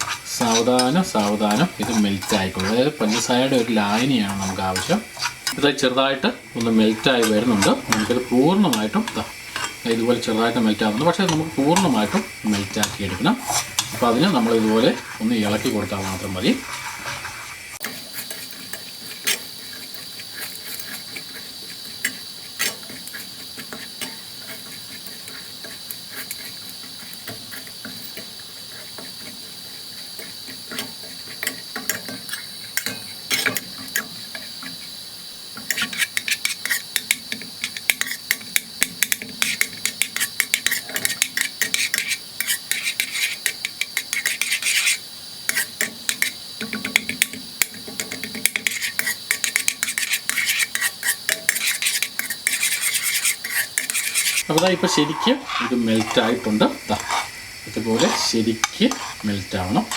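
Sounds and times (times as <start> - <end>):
spoon scraping and clinking pan: 0.0 - 34.9, 35.6 - 59.9.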